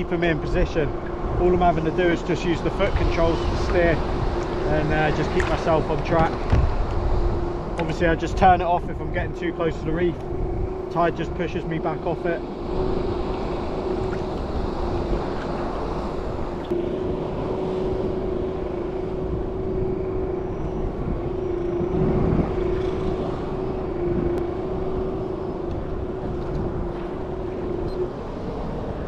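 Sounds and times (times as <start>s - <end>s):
background rushing noise: 0.0s - 29.0s
electric boat motor hum: 0.0s - 29.0s.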